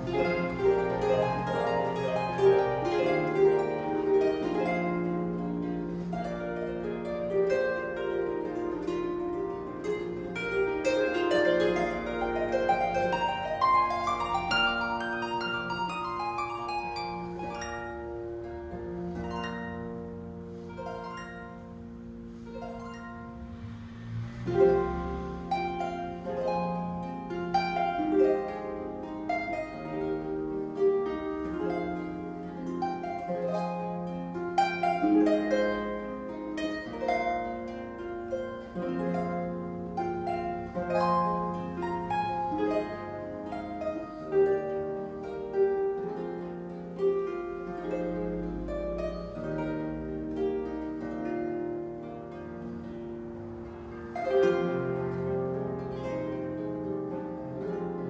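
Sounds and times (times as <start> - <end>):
solo harp playing: 0.0 - 58.0.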